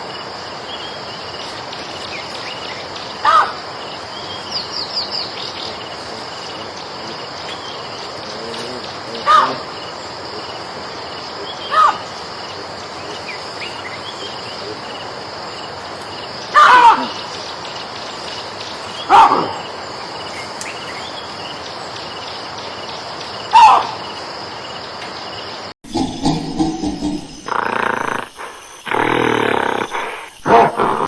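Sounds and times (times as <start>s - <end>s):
crickets chirping: 0.0s - 31.0s
monkey calling: 1.4s - 21.8s, 23.4s - 24.2s, 26.1s - 31.0s.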